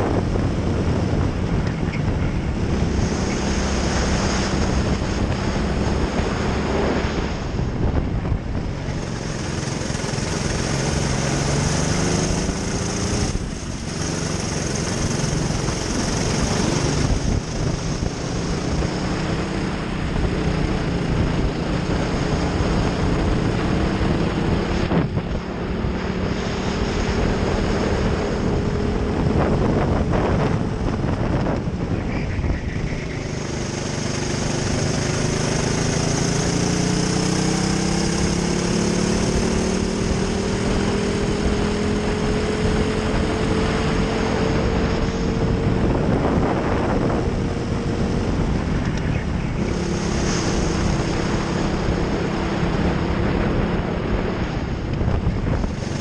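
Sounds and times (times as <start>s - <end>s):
kart engine revving: 8.6s - 56.0s.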